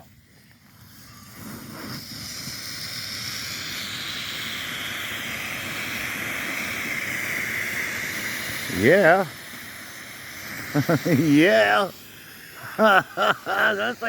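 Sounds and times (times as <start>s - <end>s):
smoke firework hissing: 0.0s - 14.0s.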